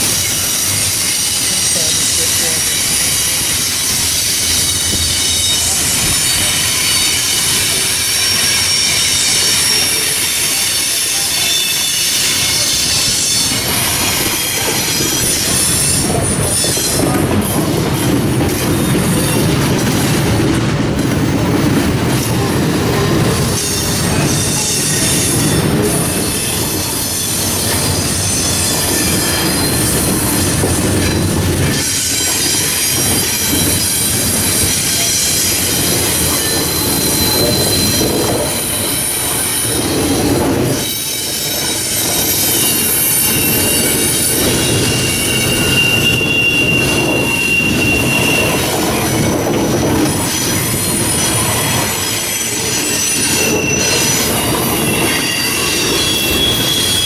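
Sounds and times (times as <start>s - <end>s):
high-pitched wheel squeals: 0.0s - 17.2s, 23.4s - 57.0s
train wheels rumbling on rail: 0.0s - 57.0s.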